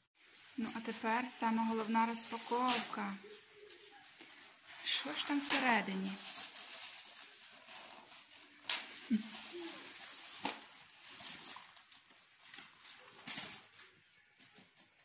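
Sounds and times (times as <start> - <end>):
foil wrapper crinkling: 0.2 - 15.0.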